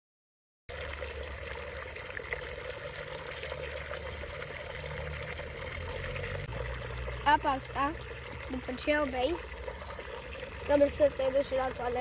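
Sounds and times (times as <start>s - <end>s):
water pouring and splashing: 0.7s - 12.0s.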